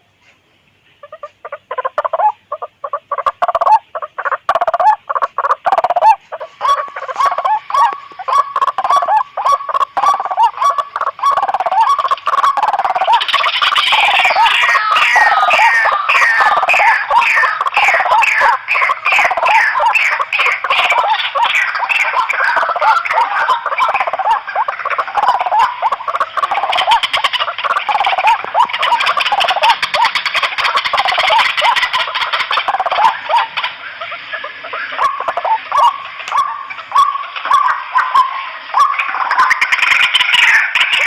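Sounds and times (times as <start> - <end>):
waterhens calling: 0.0 - 41.0.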